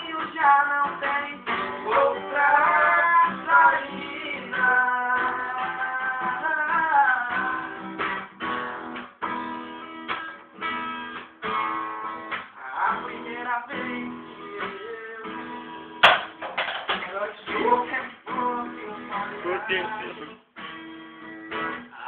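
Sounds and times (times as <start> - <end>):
acoustic plucked string instrument: 0.0 - 22.0.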